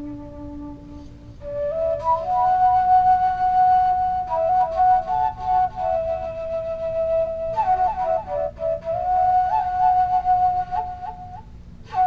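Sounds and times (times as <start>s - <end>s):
bamboo flute solo melody: 0.0s - 12.0s.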